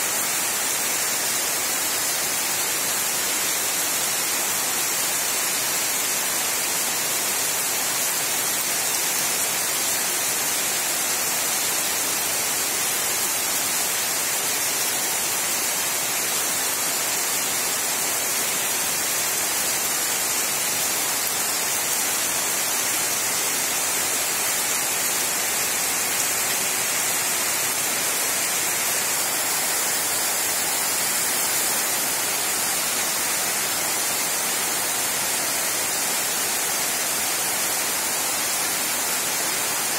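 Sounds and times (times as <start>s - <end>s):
heavy rain on rooftops: 0.0s - 39.9s.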